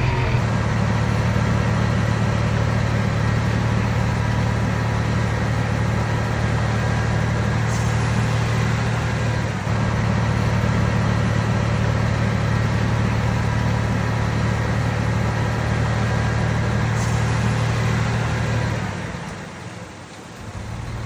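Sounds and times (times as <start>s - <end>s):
heavy diesel engine humming: 0.0s - 21.0s.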